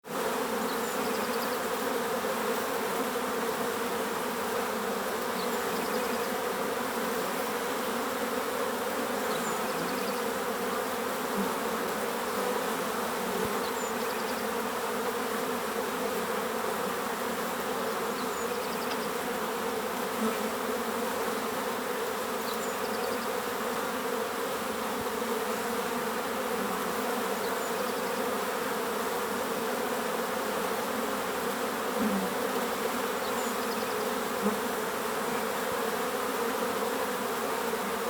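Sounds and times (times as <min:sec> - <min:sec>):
bees buzzing: 0:00.1 - 0:38.0.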